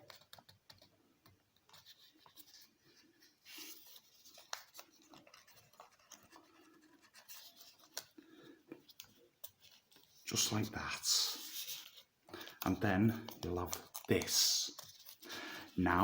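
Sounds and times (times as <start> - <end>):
paper rustling and creasing: 1.6 - 16.0.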